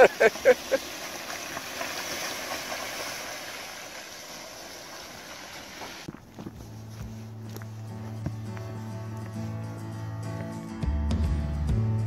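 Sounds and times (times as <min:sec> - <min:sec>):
van engine and tyres on mud: 0:00.0 - 0:12.0.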